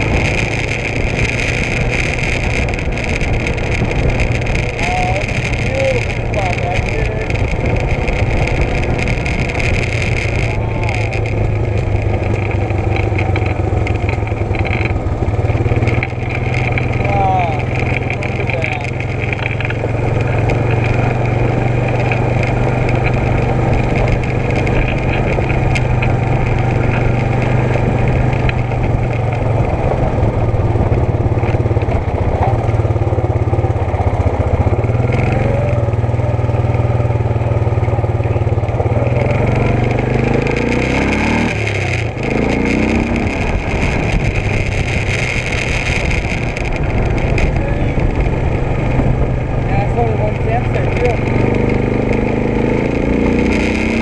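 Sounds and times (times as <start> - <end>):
atv engine droning: 0.0 - 54.0.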